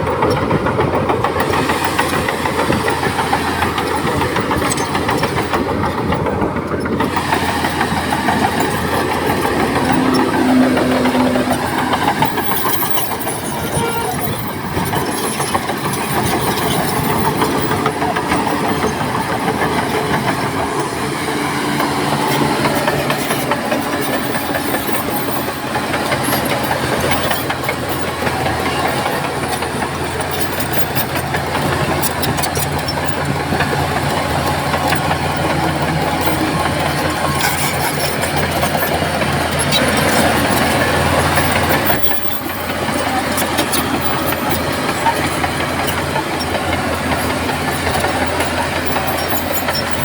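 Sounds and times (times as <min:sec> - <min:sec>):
diesel engine running: 0:00.0 - 0:50.0
steel tracks clanking: 0:00.0 - 0:50.0.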